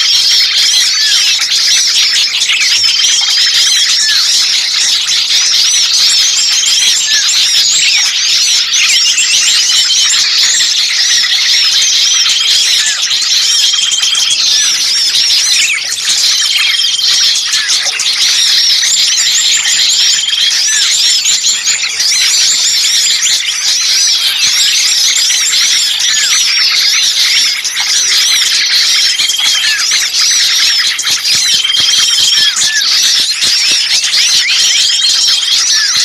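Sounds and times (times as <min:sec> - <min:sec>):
small songbirds chirping: 0:00.0 - 0:36.0
whistled bird notes: 0:00.0 - 0:36.0.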